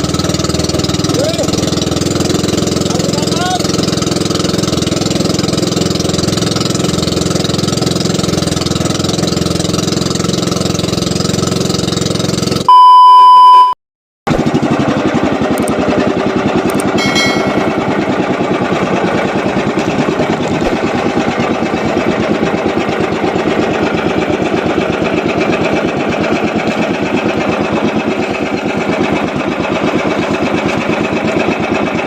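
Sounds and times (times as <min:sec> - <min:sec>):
small boat engine running: 0:00.0 - 0:12.9, 0:14.3 - 0:32.0.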